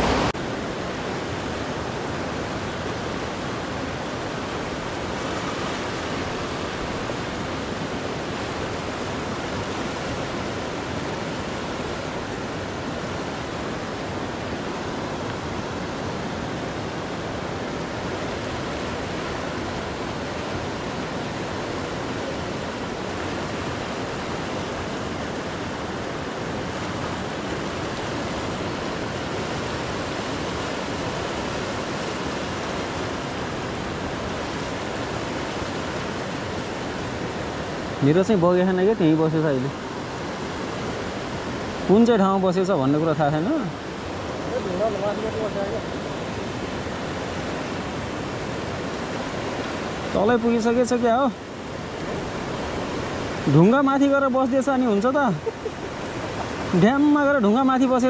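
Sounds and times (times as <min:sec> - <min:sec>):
fast river rushing: 0:00.0 - 0:58.0.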